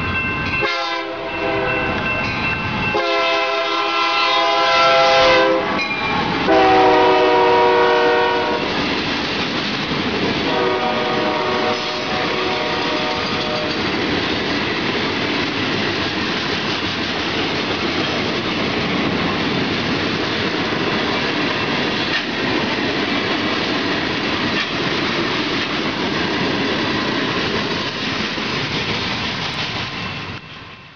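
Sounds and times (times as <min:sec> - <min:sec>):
train wheels rumbling over rails: 0:00.0 - 0:30.9.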